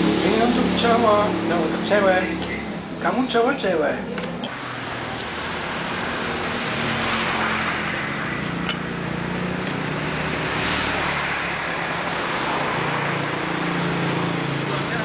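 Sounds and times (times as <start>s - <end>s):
passing vehicles rushing: 0.0s - 15.0s.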